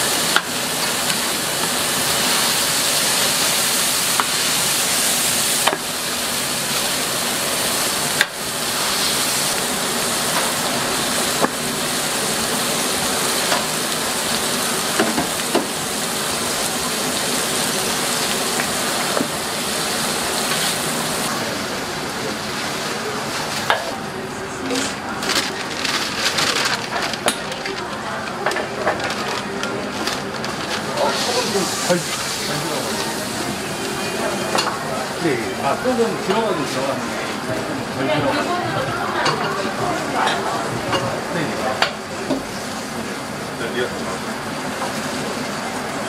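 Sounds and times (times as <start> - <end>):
burgers sizzling on griddle: 0.0 - 46.0.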